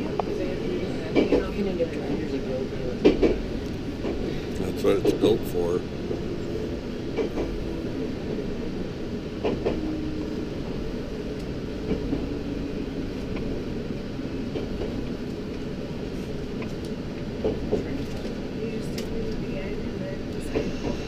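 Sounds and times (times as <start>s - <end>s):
train rumbling inside carriage: 0.0s - 21.0s.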